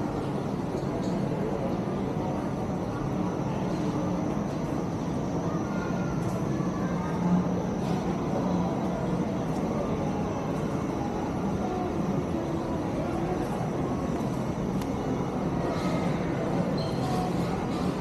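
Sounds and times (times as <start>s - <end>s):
faint indistinct background sounds: 0.0s - 18.0s.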